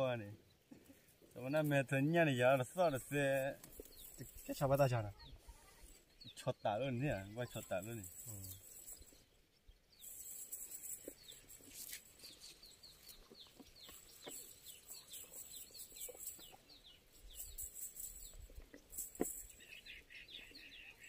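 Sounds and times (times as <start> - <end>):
faint bird chirps: 0.3 - 21.0.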